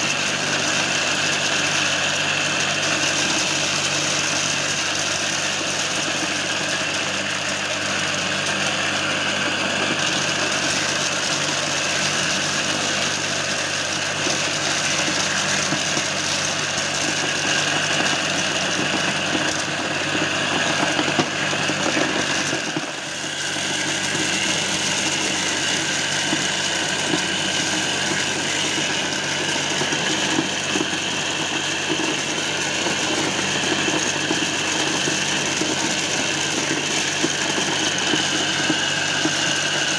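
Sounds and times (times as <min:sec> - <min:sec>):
electric motor running: 0:00.0 - 0:39.9
rattle of corn kernels: 0:00.0 - 0:39.9.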